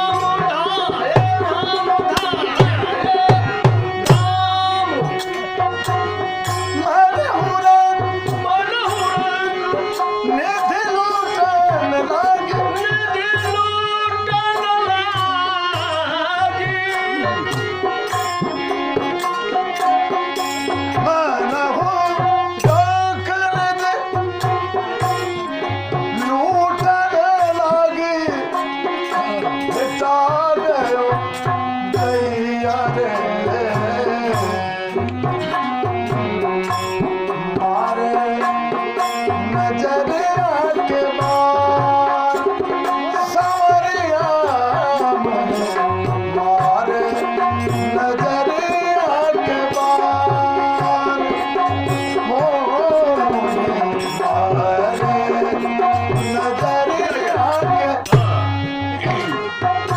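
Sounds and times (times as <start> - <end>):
tabla playing a steady rhythm: 0.0 - 59.9.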